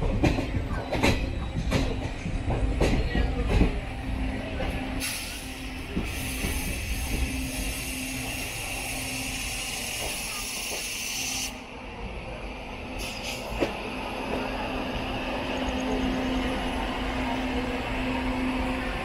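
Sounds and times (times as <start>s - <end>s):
train coach running noise: 0.0s - 19.0s.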